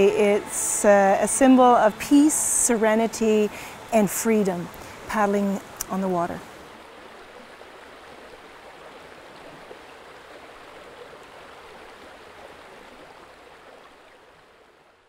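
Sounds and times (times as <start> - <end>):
water flowing: 0.0 - 15.0.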